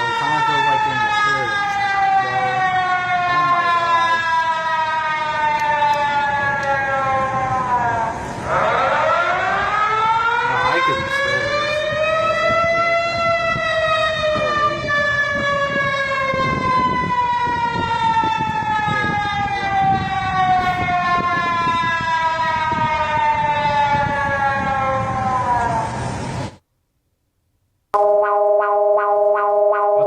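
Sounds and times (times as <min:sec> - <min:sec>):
emergency siren wailing: 0:00.0 - 0:26.5, 0:28.0 - 0:30.0.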